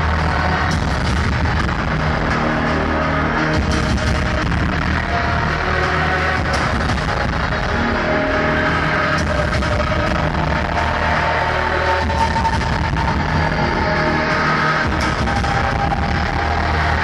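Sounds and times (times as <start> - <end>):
loud electronic music: 0.0 - 17.0.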